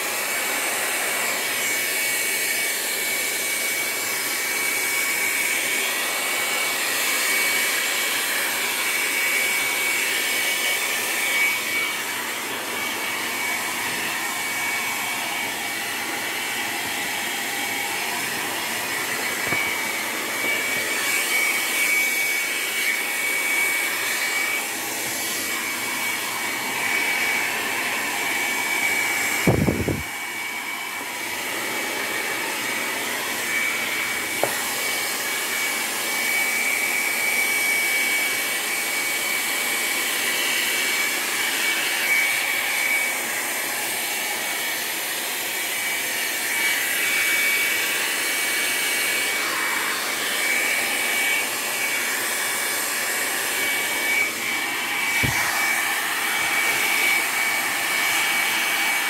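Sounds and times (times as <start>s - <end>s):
hot-air blower whining: 0.0s - 59.0s.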